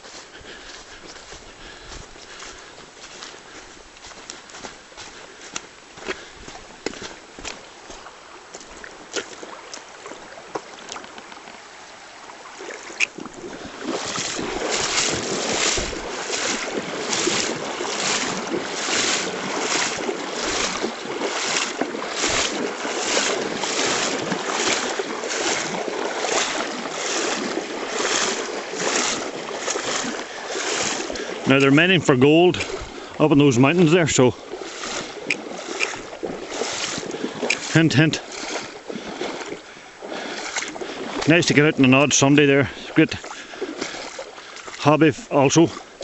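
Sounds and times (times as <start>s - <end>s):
swishing footsteps: 0.0s - 9.4s, 13.0s - 31.8s, 32.5s - 41.3s.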